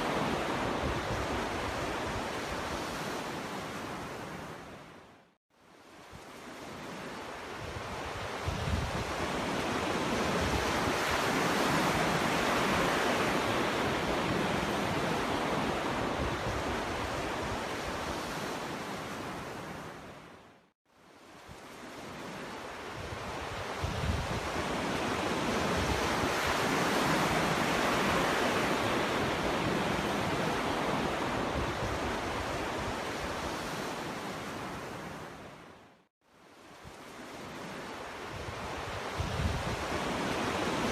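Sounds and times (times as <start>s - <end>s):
sea waves breaking on beach: 0.0s - 5.0s, 5.9s - 20.4s, 21.2s - 35.8s, 36.5s - 40.9s.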